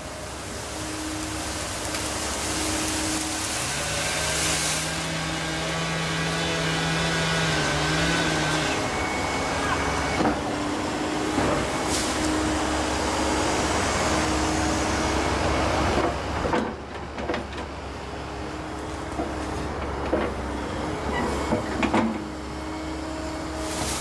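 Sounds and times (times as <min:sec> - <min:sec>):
excavator diesel engine whining: 0:00.0 - 0:24.0.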